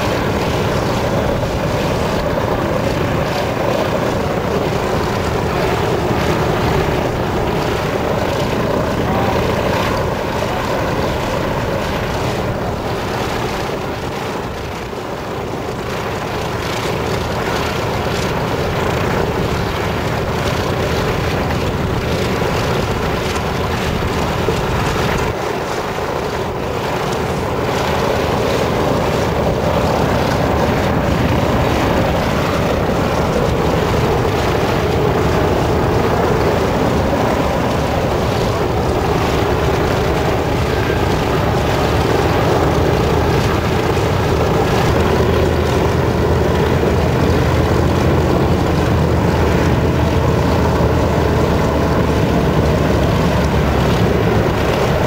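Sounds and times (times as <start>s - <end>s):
propeller and engine drone: 0.0s - 55.0s.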